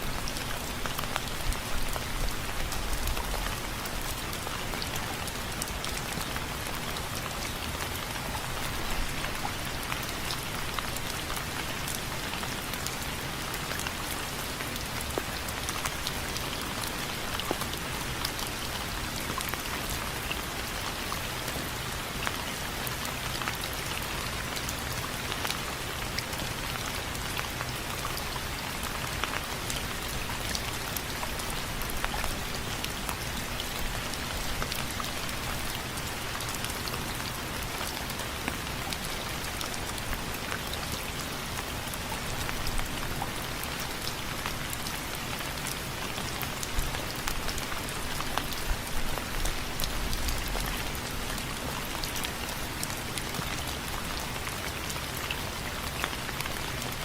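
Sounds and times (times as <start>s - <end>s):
rain downpour hiss: 0.0s - 57.0s.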